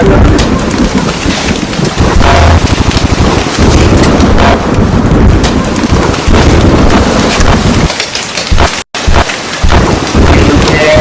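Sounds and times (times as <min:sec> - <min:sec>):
heavy rain: 0:00.0 - 0:11.0
thunder rumbling: 0:00.0 - 0:11.0.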